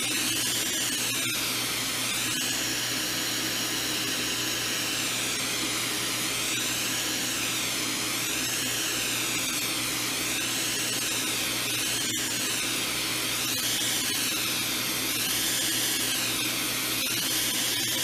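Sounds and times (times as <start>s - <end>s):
gas torch flame hissing: 0.0s - 18.0s.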